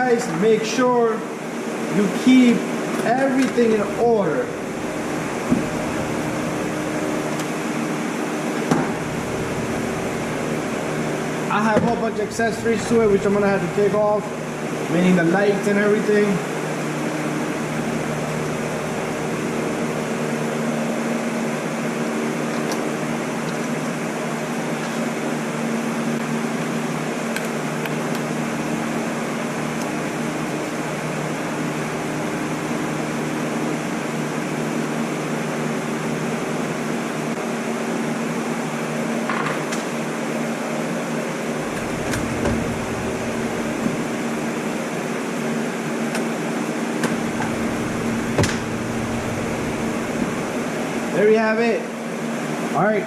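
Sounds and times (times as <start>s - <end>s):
fan motor whirring: 0.0s - 52.7s.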